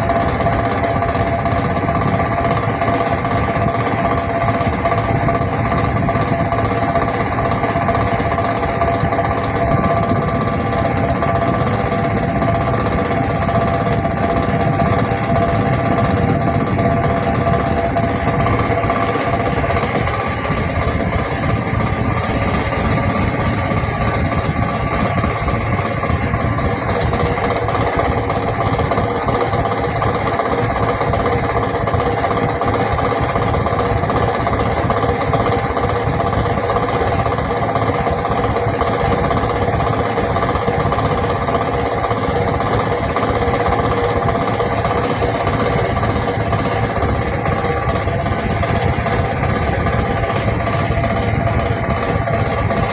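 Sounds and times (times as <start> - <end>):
constant rumble: 0.0 - 52.9
electric fan whining and rattling: 0.0 - 52.9.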